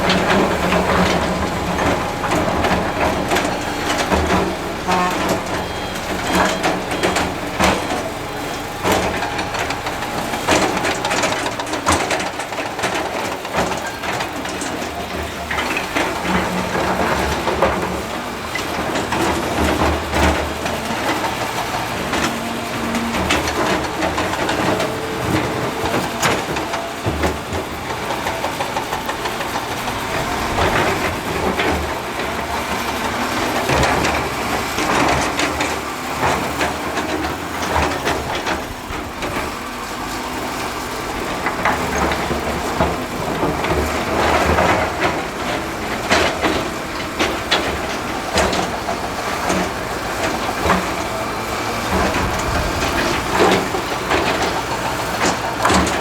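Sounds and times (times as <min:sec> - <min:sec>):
clanks of metal and rock: 0:00.0 - 0:56.0
diesel engine running: 0:00.0 - 0:56.0.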